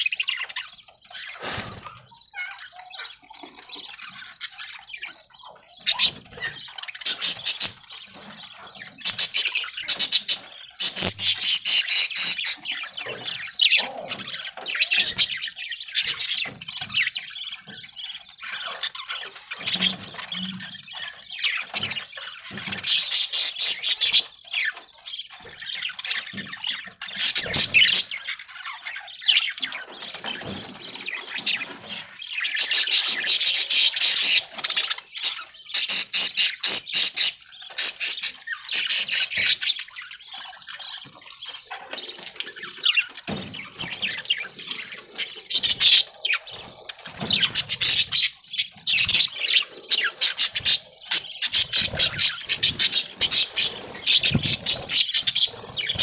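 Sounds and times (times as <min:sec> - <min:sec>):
budgies chattering and twittering: 0:00.0 - 0:56.0.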